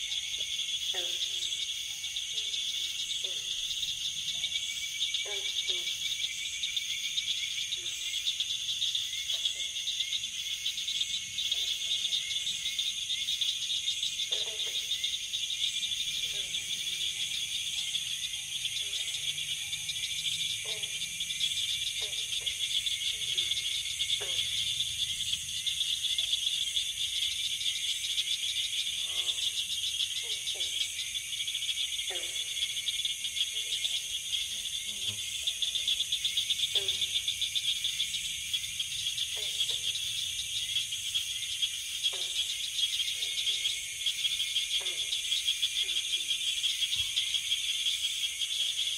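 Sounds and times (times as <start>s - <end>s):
crickets chirping: 0.0s - 48.9s
insect chorus trilling: 0.0s - 48.9s.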